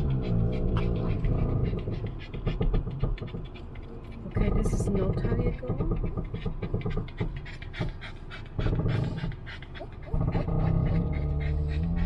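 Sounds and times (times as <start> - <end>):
car hum: 0.0 - 12.0
dog panting: 0.0 - 12.0.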